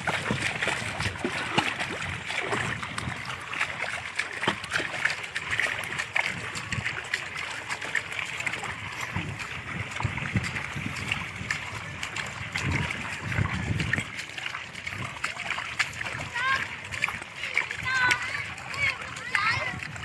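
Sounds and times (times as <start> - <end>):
bare feet splashing through water: 0.0 - 20.0.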